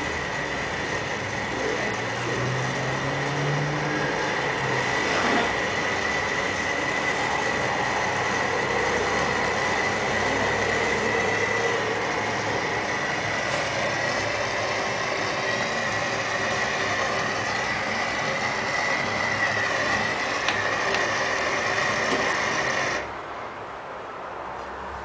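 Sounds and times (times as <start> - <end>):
gas torch flame hissing: 0.0 - 23.1.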